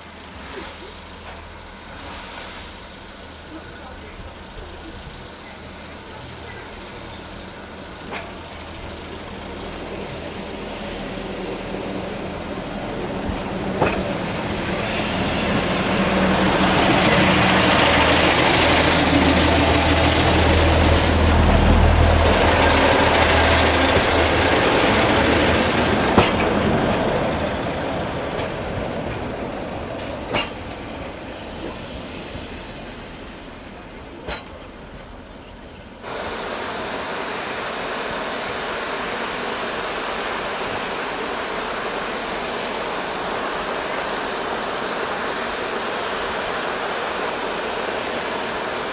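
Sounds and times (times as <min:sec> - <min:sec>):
diesel train passing: 0:00.0 - 0:48.9.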